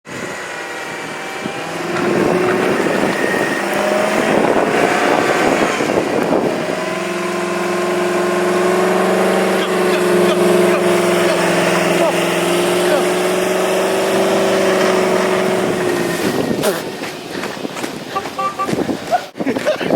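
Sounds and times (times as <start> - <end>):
rushing noise: 0.1 - 19.1
vehicle engine running: 0.1 - 19.2.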